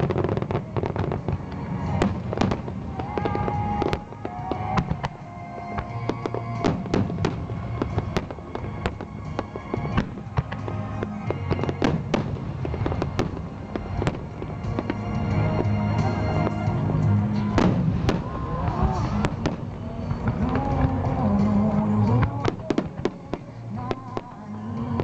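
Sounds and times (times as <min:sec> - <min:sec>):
fireworks bangs and crackles: 0:00.0 - 0:25.0
music playing: 0:00.0 - 0:25.0.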